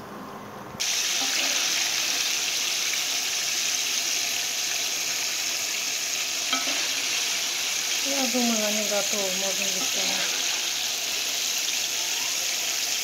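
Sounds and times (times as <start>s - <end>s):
chicken deep-frying in oil: 0.8s - 13.0s.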